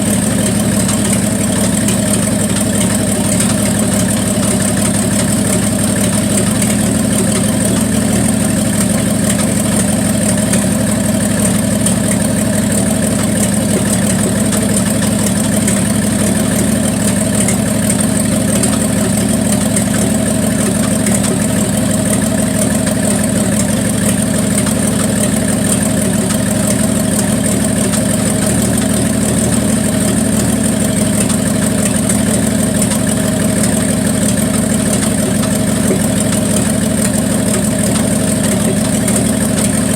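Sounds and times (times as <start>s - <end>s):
car engine idling with a miss: 0.0s - 39.9s.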